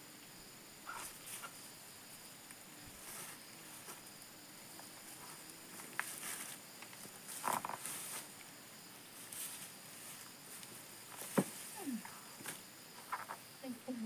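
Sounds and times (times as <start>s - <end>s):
high drone of insects: 0.0s - 14.0s
leaves rustling and crackling: 0.8s - 14.0s.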